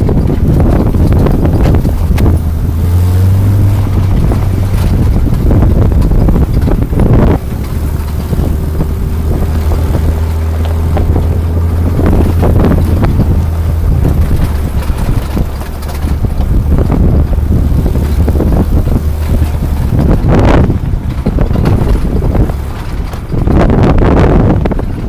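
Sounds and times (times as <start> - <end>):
vehicle engine droning: 0.0 - 25.0
wind buffeting microphone: 0.0 - 25.0.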